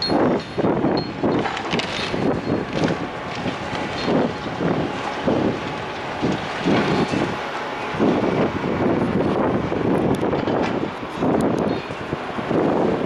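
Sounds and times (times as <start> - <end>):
heavy demolition machinery rumble: 0.0 - 13.0
wind buffeting microphone: 0.0 - 13.0.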